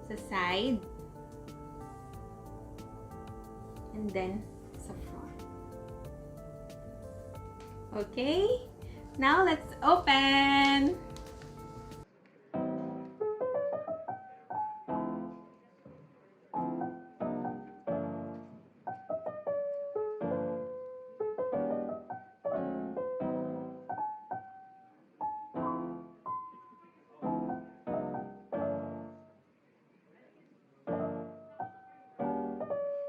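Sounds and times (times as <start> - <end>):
calm piano music: 0.0 - 29.5, 30.8 - 33.0.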